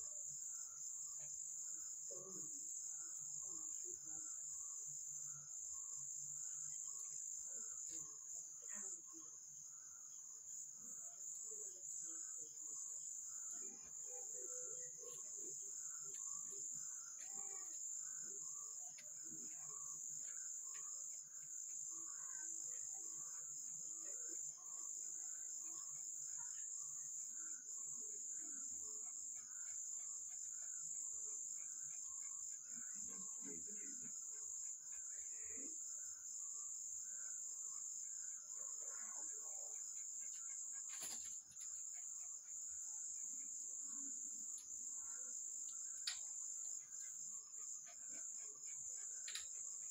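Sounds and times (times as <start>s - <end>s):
crickets chirring: 0.0s - 49.9s.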